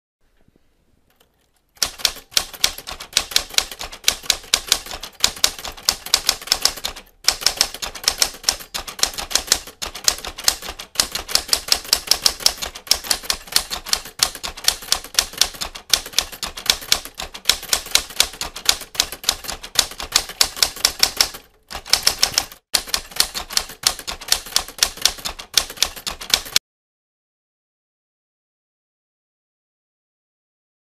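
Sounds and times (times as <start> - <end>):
typewriter typing: 1.1 - 26.6.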